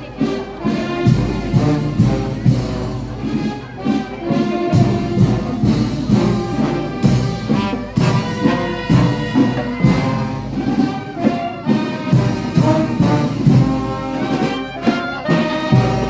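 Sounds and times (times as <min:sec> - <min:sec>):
drum strokes: 0:00.0 - 0:16.0.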